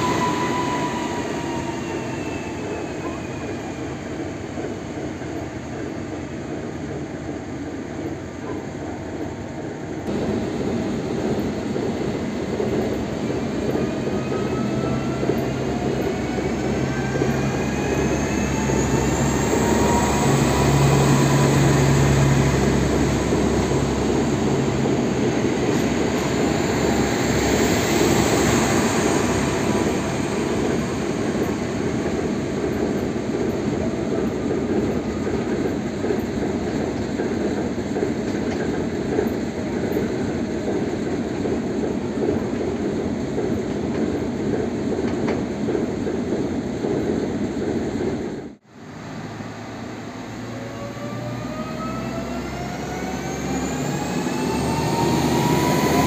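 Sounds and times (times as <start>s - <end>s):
wheels rumbling on rails: 10.0s - 56.0s.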